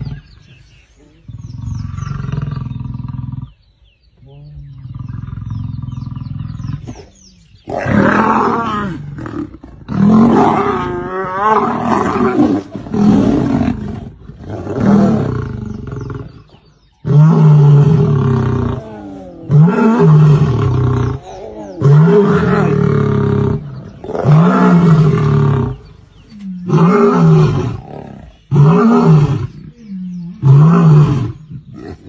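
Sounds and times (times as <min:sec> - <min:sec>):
lions roaring: 0:04.7 - 0:32.0.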